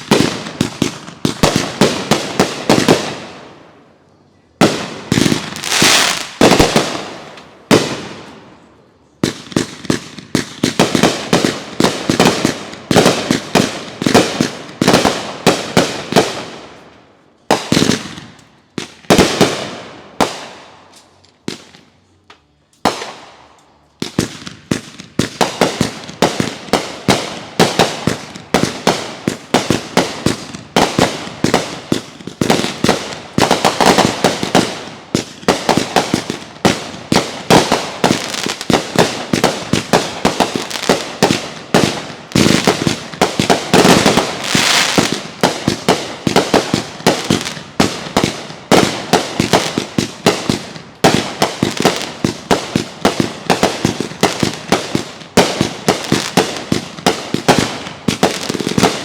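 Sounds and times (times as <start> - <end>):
fireworks bangs and crackles: 0.0 - 3.8, 4.6 - 22.0, 22.8 - 59.0.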